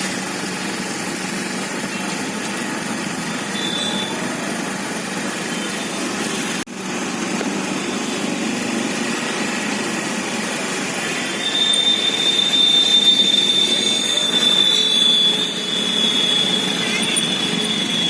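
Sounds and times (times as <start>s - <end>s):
high-pitched whine: 1.7s - 18.0s.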